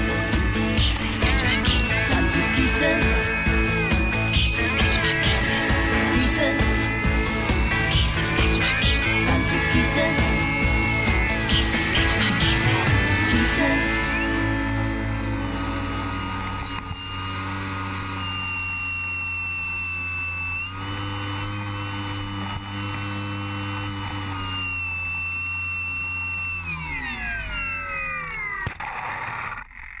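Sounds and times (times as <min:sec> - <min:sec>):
electric motor and propeller whine: 0:00.0 - 0:30.0.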